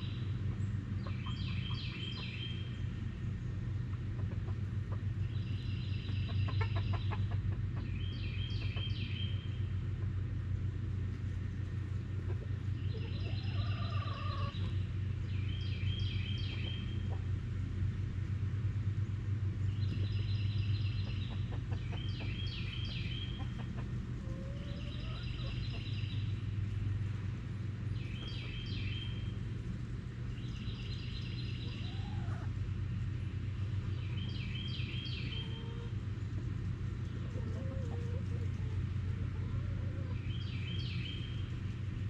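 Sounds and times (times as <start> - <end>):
chickens clucking softly: 0.0 - 42.0
steady low hum: 0.0 - 42.0.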